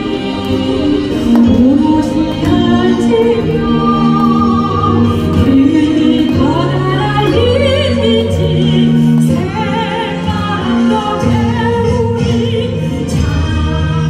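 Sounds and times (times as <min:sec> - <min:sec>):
instrumental accompaniment: 0:00.0 - 0:14.0
woman singing opera: 0:00.0 - 0:14.0.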